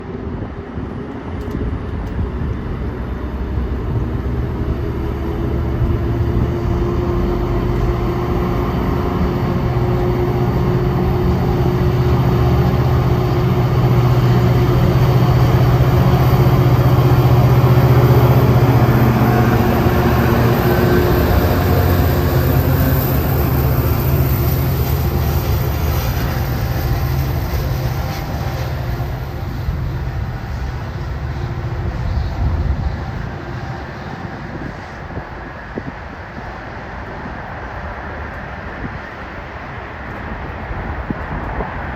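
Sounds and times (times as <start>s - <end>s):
diesel locomotive engine drone: 0.0s - 41.9s
train wheels rumbling on rail: 0.0s - 41.9s.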